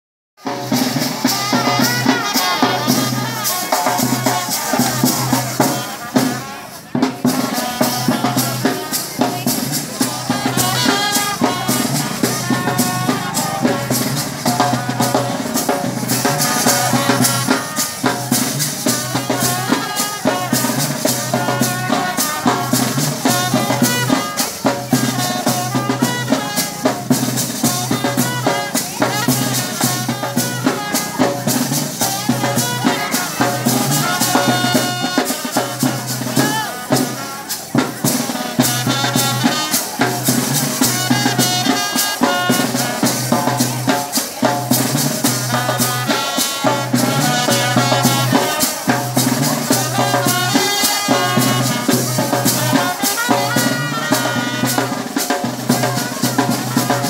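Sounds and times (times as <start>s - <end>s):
drums beating fast rhythm: 0.4s - 57.0s.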